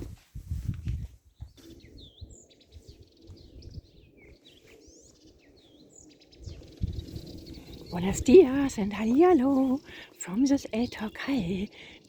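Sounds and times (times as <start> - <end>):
small birds chirping: 0.8 - 12.0.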